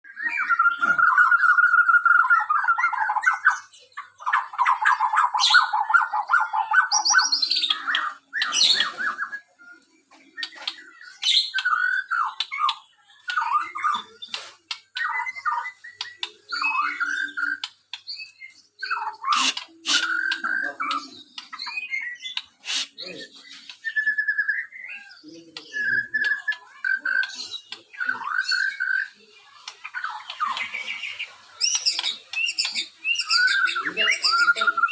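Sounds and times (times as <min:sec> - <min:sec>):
songbird trilling and whistling: 0:00.1 - 0:34.9.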